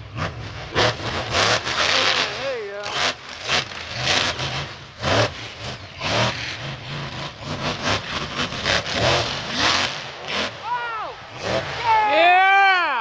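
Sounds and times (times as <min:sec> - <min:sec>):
monster truck engine revving: 0:00.0 - 0:12.7.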